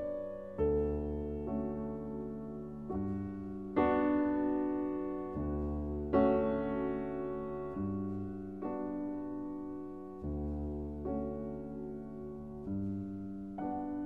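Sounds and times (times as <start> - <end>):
slow solo piano chords: 0.0 - 14.0.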